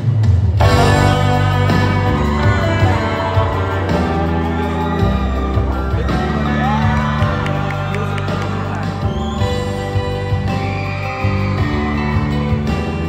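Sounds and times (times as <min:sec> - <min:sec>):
loud music with heavy bass: 0:00.0 - 0:13.0.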